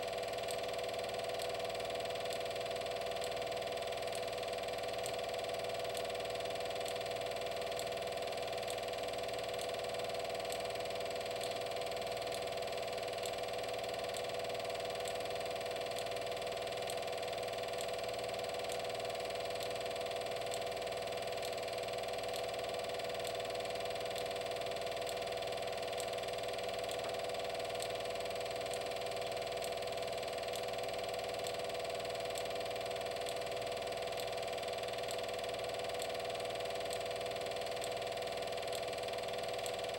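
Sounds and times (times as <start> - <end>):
motor hum: 0.0 - 39.9
faint regular ticking: 0.1 - 39.9.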